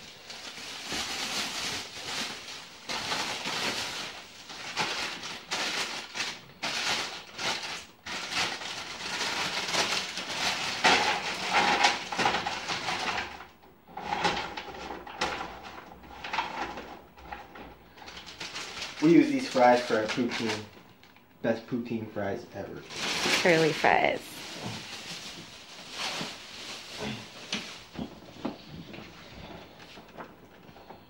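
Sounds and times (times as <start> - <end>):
plastic bags rustling: 0.0 - 21.1, 22.7 - 31.0.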